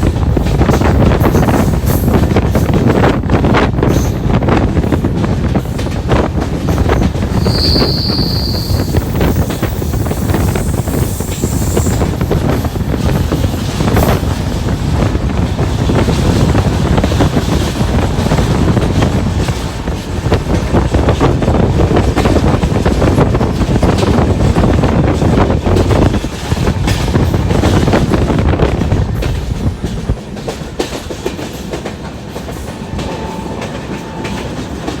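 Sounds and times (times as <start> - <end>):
high squeal of train: 0.0 - 35.0
train wheels clattering over rail joints: 0.0 - 35.0.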